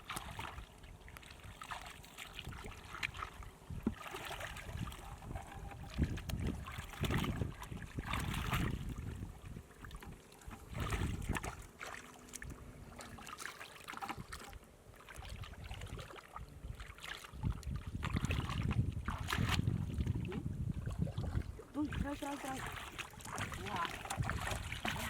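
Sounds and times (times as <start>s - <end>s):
shallow water splashing: 0.0s - 25.0s.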